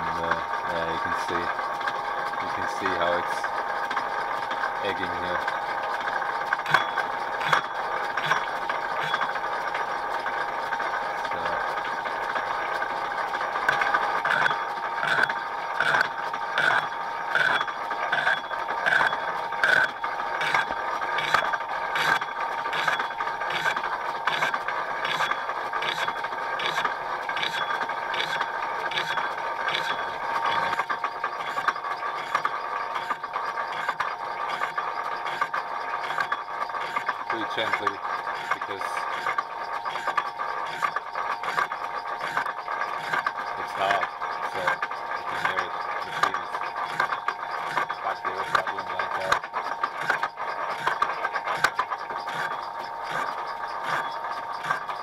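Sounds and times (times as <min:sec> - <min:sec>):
lathe running: 0:00.0 - 0:55.0
lathe tool knocking: 0:00.0 - 0:55.0.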